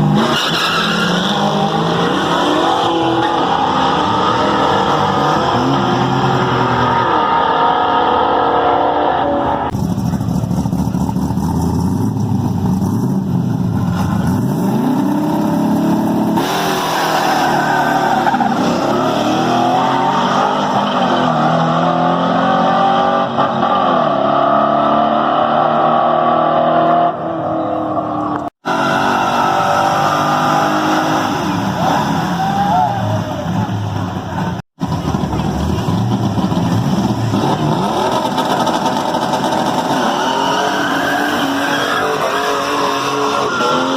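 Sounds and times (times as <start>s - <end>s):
muscle car engines revving: 0.0s - 43.9s.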